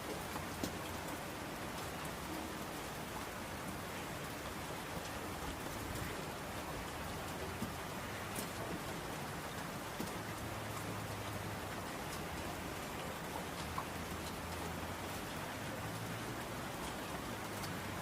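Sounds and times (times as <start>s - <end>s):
rain pattering on a window: 0.0s - 18.0s.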